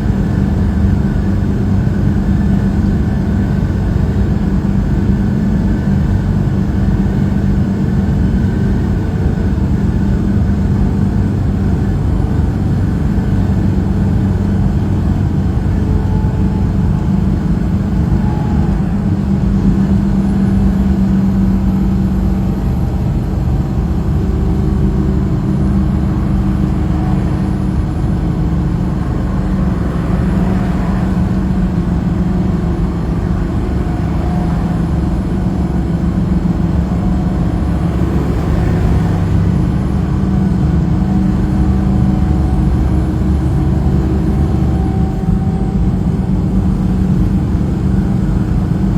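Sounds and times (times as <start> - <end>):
road noise: 0.0 - 48.9
truck engine drone: 0.0 - 48.9.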